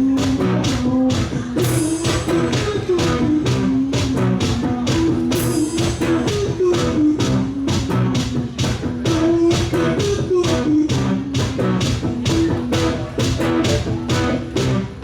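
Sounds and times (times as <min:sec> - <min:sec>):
drums keeping steady beat: 0:00.0 - 0:15.0
electric guitar: 0:00.0 - 0:15.0.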